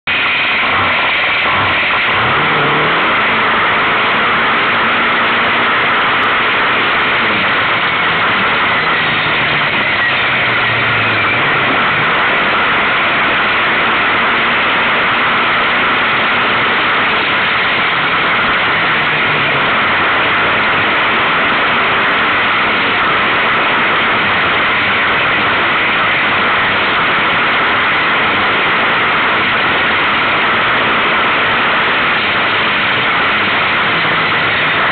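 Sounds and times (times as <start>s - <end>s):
quad engine revving: 0.0s - 34.9s.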